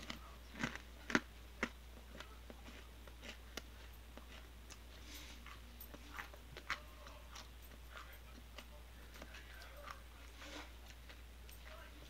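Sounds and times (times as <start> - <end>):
popcorn being chewed: 0.0 - 12.0
steady low hum: 0.0 - 12.0.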